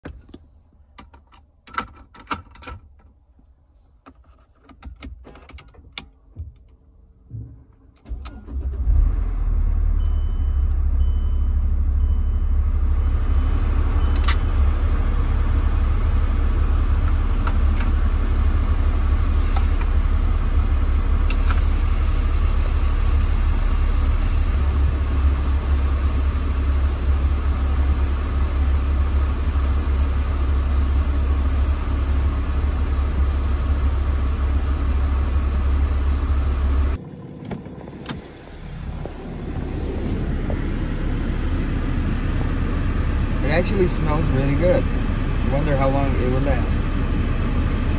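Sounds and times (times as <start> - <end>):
car engine starting and idling: 0.0 - 47.9.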